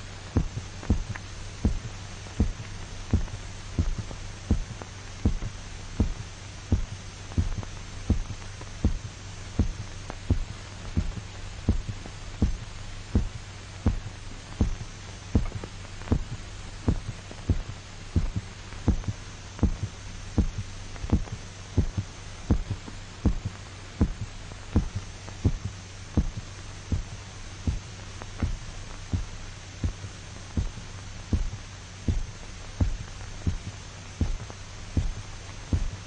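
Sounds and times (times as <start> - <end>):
steady low hum: 0.0 - 36.0
dog's heartbeat thumps: 0.4 - 36.0.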